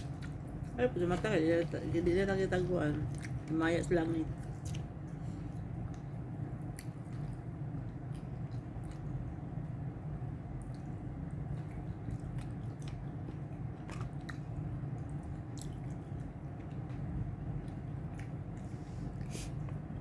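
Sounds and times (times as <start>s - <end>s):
person chewing food: 0.0s - 0.8s, 3.0s - 3.5s, 4.3s - 20.0s
steady low hum: 0.0s - 20.0s.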